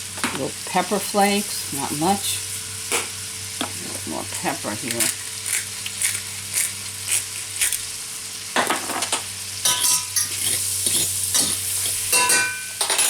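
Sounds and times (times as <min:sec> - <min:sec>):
shrimp sizzling in a frying pan: 0:00.0 - 0:13.0.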